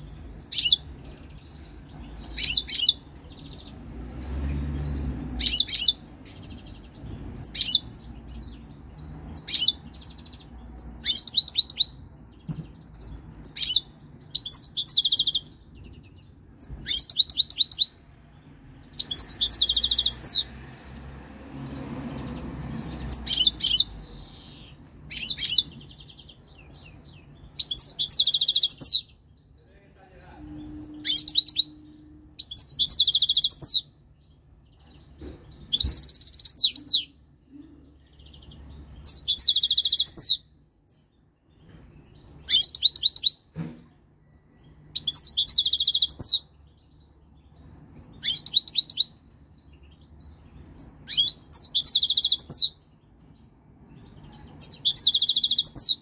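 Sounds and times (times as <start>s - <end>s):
goldfinch twittering song: 0.0s - 20.6s, 22.2s - 37.2s, 38.0s - 43.5s, 44.6s - 52.8s, 53.9s - 56.0s.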